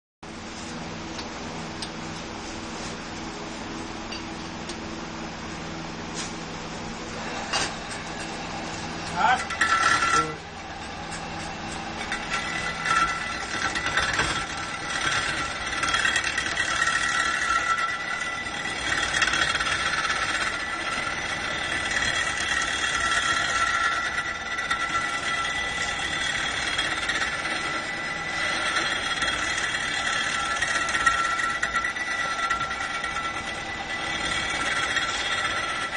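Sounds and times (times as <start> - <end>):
lathe grinding salt block: 7.0 - 35.9.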